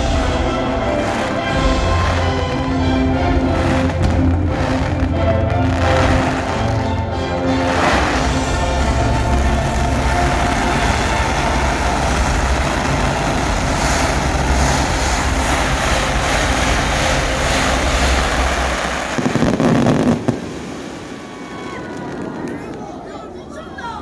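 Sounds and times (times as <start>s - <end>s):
fireworks bursting and crackling: 0.0s - 23.3s.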